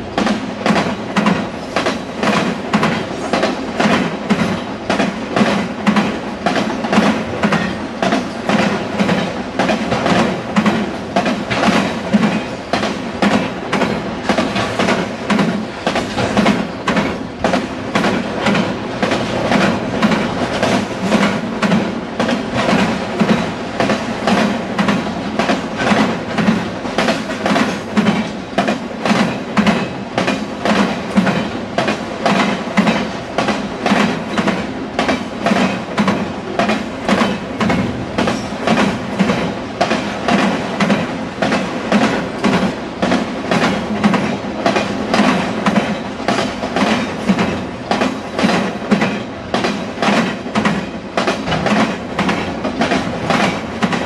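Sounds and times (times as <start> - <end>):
train rumble: 0.0 - 54.0
train wheels clattering over crossing: 0.0 - 54.0.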